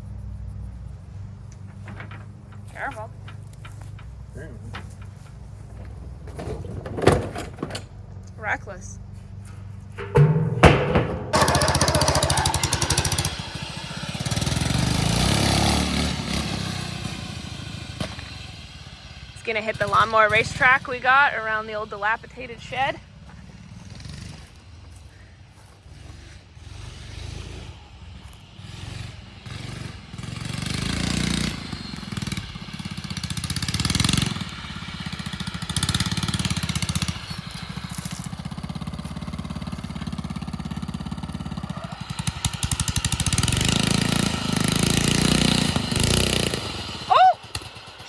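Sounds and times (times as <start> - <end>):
riding lawn mower engine: 0.0 - 48.0.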